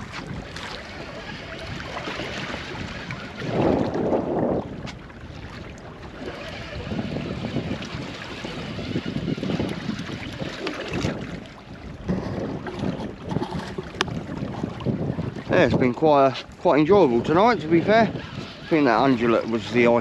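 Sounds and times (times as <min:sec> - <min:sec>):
water sloshing against boat hull: 0:00.0 - 0:20.0
wind buffeting microphone: 0:00.0 - 0:20.0.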